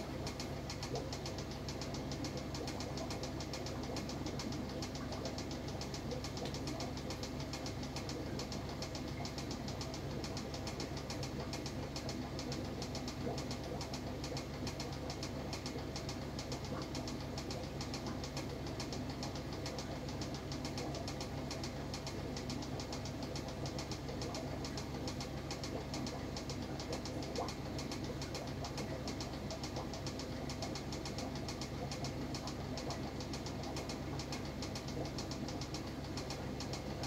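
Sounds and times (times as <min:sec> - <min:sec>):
aquarium pump humming: 0:00.0 - 0:37.0.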